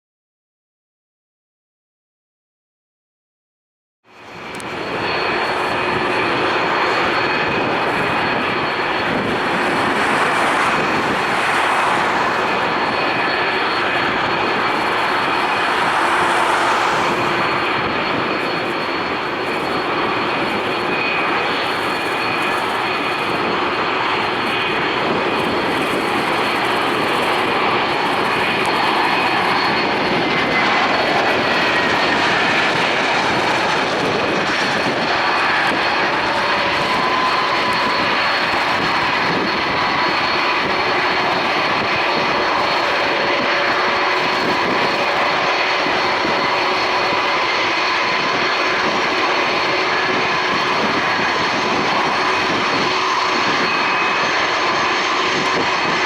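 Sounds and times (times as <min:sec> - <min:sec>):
jet engines running with high whine: 0:04.0 - 0:56.0.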